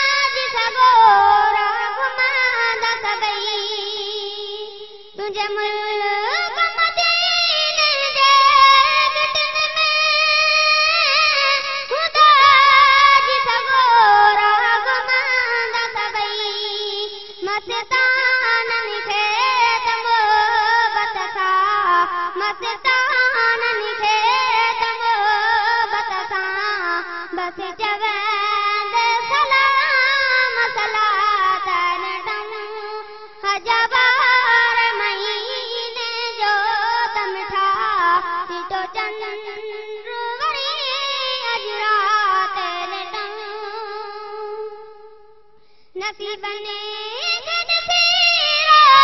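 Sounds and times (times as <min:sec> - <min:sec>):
boy singing unaccompanied: 0:00.0 - 0:45.1, 0:46.0 - 0:49.0.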